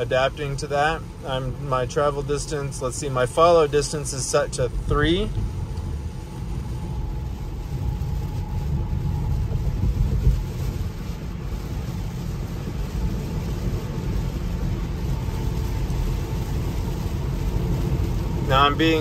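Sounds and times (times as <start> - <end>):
heavy rain on car: 0.0 - 19.0
tyres hissing on wet road: 0.0 - 19.0.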